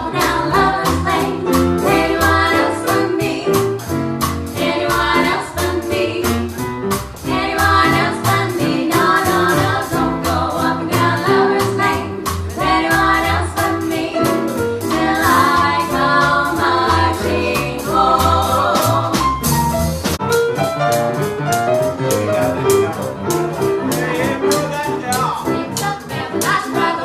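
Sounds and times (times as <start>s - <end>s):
vocal group singing in harmony: 0.0s - 19.6s, 24.2s - 27.0s
instrumental backing with bass and beat: 0.0s - 27.0s.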